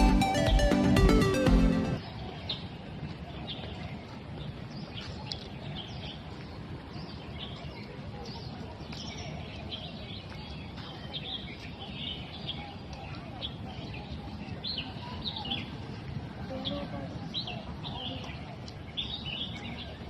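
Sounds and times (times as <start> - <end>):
outdoor background noise: 0.0 - 20.0
small birds chirping: 2.0 - 20.0.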